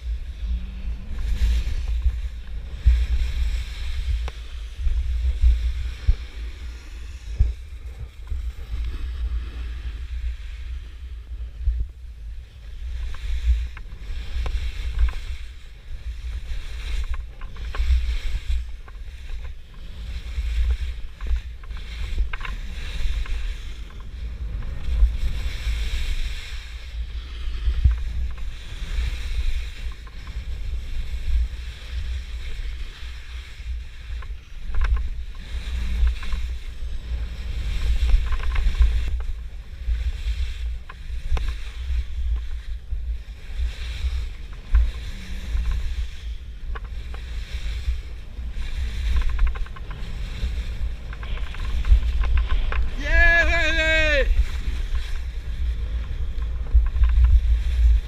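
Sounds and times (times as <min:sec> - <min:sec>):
skis scraping packed snow: 0:00.0 - 0:58.0
wind buffeting microphone: 0:00.0 - 0:58.0.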